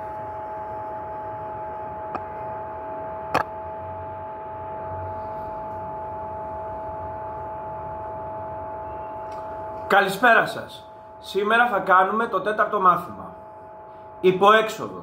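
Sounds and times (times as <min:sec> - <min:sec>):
humming whine on two pitches: 0:00.0 - 0:15.0.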